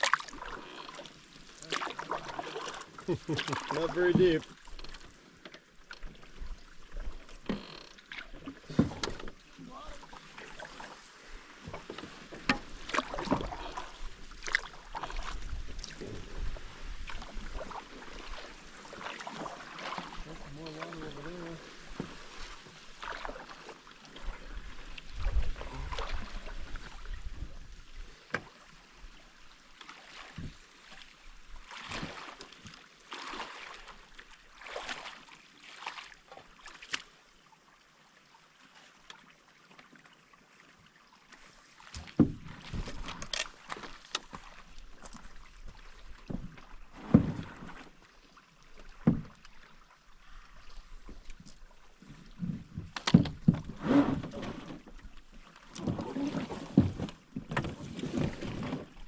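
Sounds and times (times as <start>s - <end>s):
paddle splashing through water: 0.0s - 59.0s.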